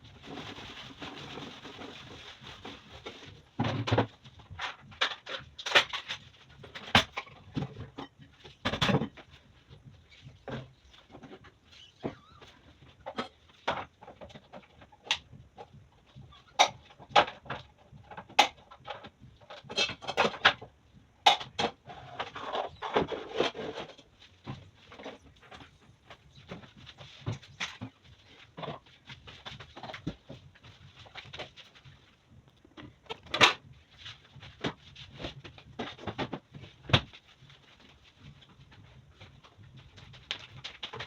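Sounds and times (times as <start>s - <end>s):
rubbing and rattling: 0.0s - 20.7s, 21.3s - 41.0s.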